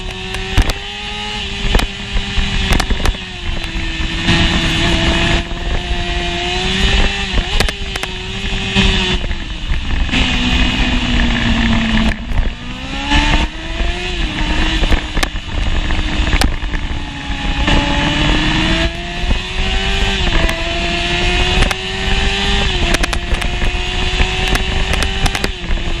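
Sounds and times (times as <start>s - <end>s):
motorcycle engine revving high: 0.0s - 26.0s
wind rush on microphone: 0.0s - 26.0s.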